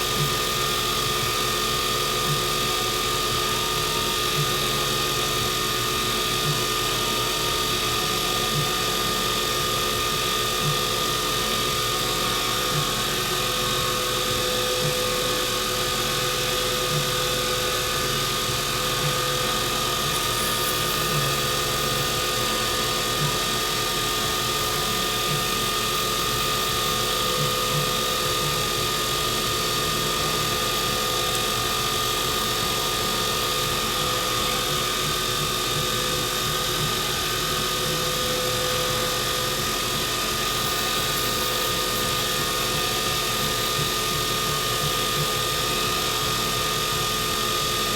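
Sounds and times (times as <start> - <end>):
wood lathe motor whine: 0.0 - 47.9.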